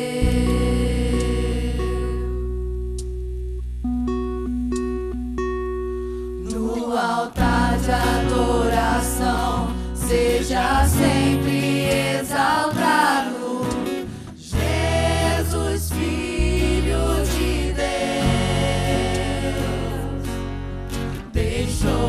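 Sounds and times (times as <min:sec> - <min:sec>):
voices singing together: 0:00.0 - 0:02.3, 0:06.4 - 0:22.0
electric bass: 0:00.0 - 0:12.7, 0:13.7 - 0:22.0
acoustic guitars: 0:00.0 - 0:22.0.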